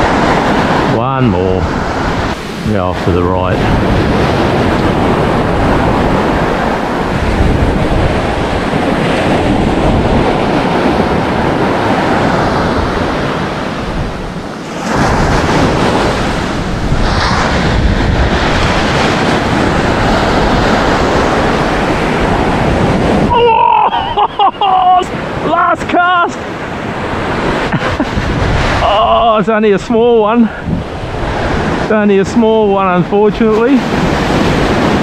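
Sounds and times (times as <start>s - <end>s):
surf washing: 0.0s - 35.0s
wind buffeting microphone: 0.0s - 35.0s.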